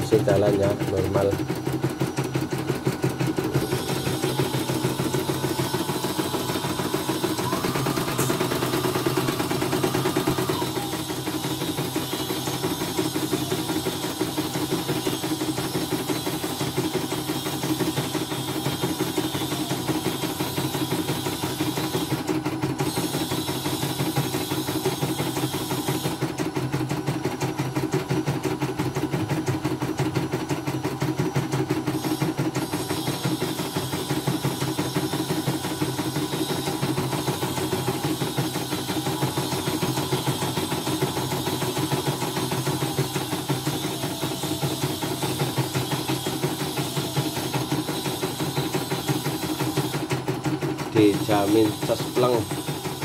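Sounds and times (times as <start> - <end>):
embroidery machine stitching: 0.0 - 53.0.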